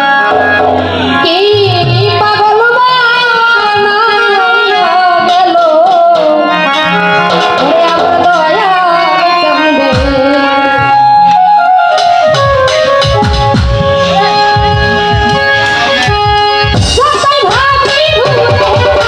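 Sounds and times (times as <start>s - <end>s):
instrumental accompaniment: 0.0s - 19.0s.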